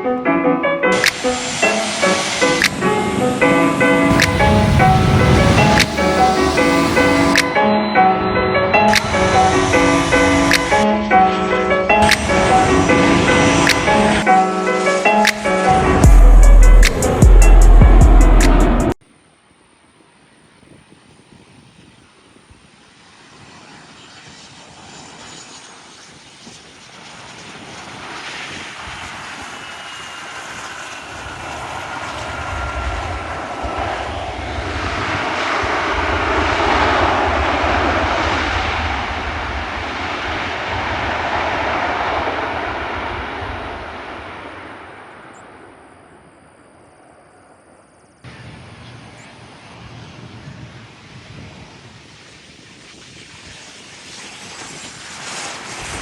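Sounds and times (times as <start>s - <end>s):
jet passing by: 0.0s - 19.0s, 21.8s - 56.0s
jet engine whine: 0.0s - 56.0s.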